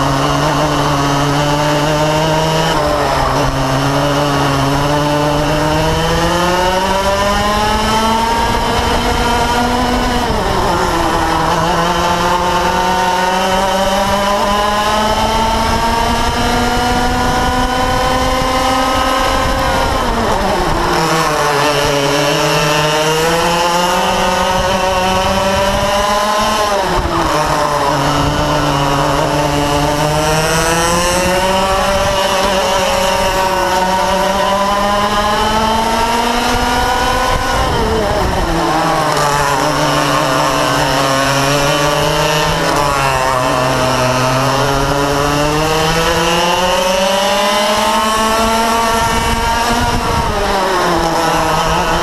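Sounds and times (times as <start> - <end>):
kart engine at full throttle: 0.0 - 52.0.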